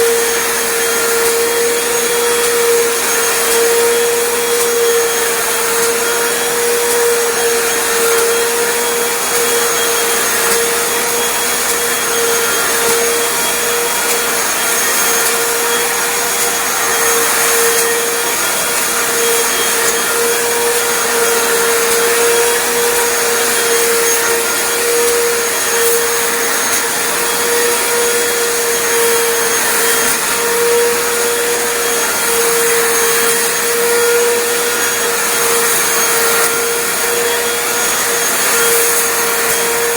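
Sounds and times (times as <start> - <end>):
floor cleaner motor whine: 0.0 - 39.9.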